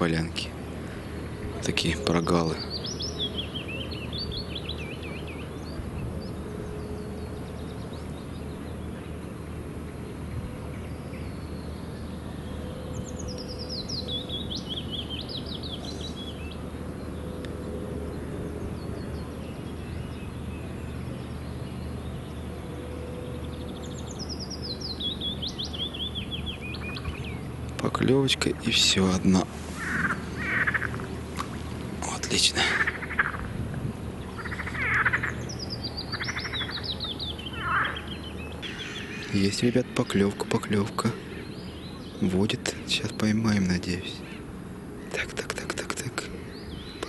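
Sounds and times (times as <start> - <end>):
low background noise: 0.0 - 47.0
songbird singing: 0.0 - 47.0.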